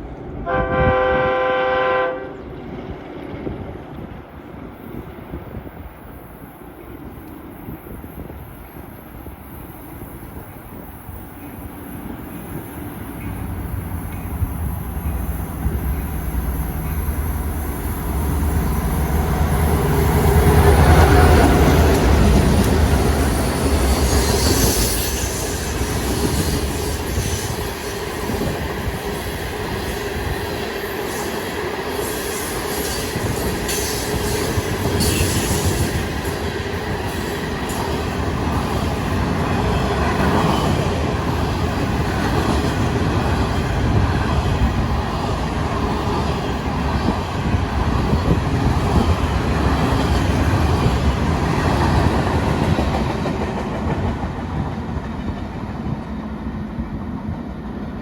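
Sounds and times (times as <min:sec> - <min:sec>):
diesel locomotive engines: 0:00.0 - 0:58.0
train wheels rolling: 0:02.4 - 0:58.0.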